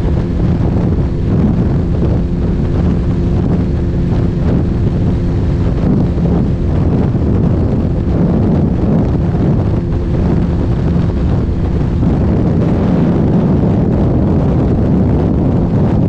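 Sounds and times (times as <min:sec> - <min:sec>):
motorcycle engine drone: 0:00.0 - 0:16.0
wind rushing over microphone: 0:00.0 - 0:16.0.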